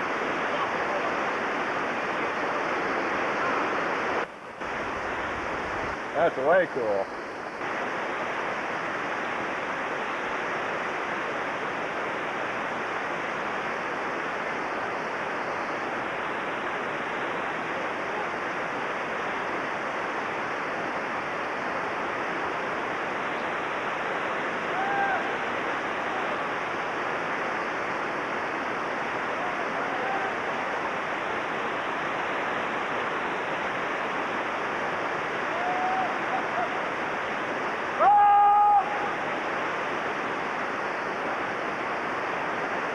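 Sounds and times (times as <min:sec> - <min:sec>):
whitewater rapids roaring: 0:00.0 - 0:42.9.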